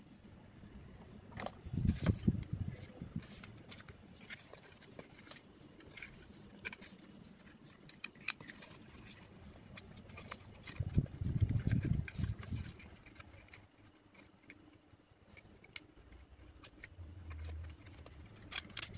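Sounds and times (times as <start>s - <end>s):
twist ties clicking and scratching: 1.4s - 18.9s.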